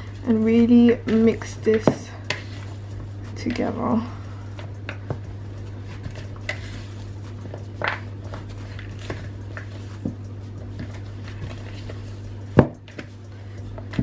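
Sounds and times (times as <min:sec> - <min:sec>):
hands kneading cookie dough: 0:00.0 - 0:14.0
steady low hum: 0:00.0 - 0:14.0.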